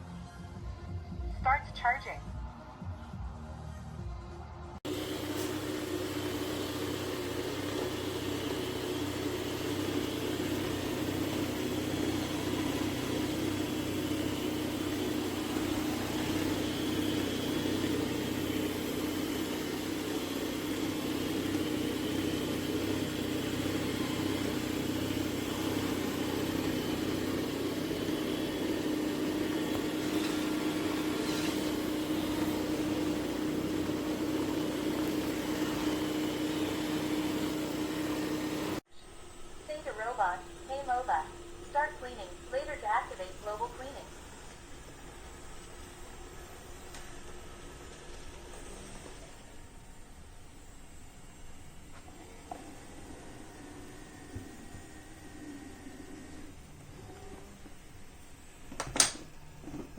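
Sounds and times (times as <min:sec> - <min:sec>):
robot vacuum base humming: 0:04.8 - 0:59.9.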